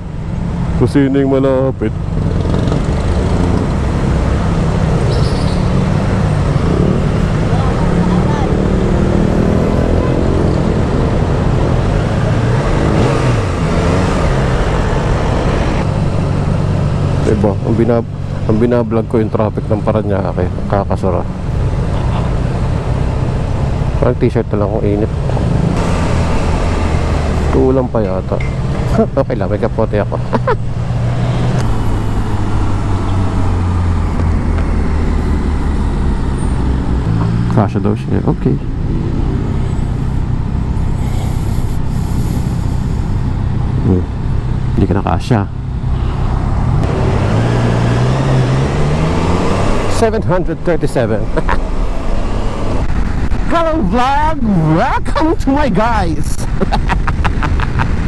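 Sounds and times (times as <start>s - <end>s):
city traffic noise: 0.0s - 58.0s.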